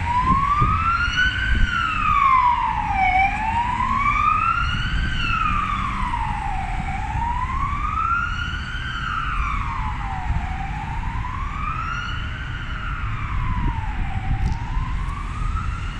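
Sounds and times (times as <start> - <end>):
ambulance siren wailing: 0.0 - 15.9
low traffic rumble: 0.0 - 15.9.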